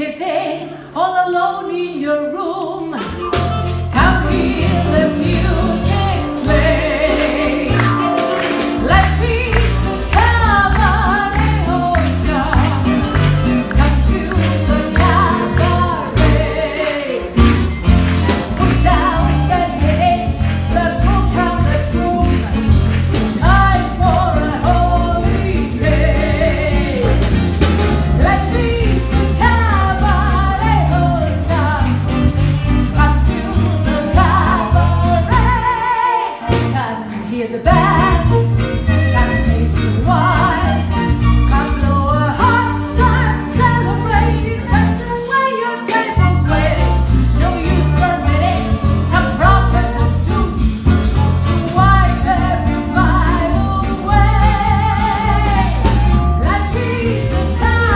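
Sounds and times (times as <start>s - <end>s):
bass: 0.0s - 57.9s
piano: 0.0s - 57.9s
drum kit beat: 3.0s - 57.9s.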